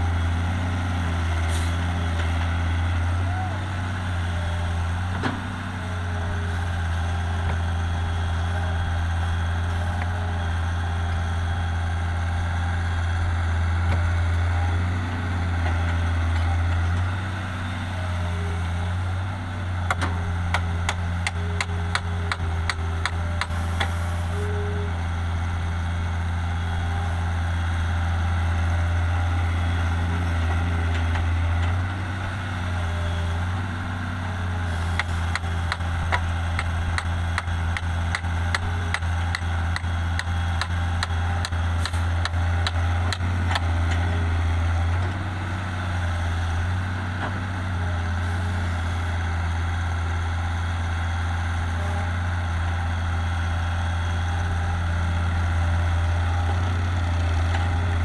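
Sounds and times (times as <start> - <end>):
excavator diesel engine droning: 0.0 - 58.0.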